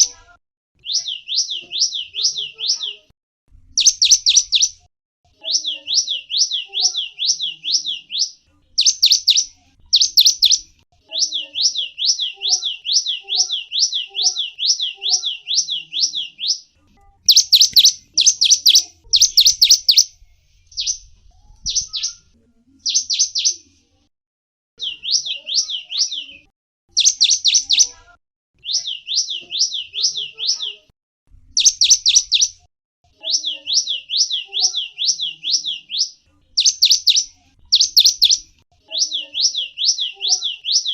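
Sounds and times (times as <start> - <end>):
bird singing rapid high chirps: 0.8 - 3.1, 3.7 - 23.7, 24.8 - 28.0, 28.6 - 30.8, 31.5 - 40.9.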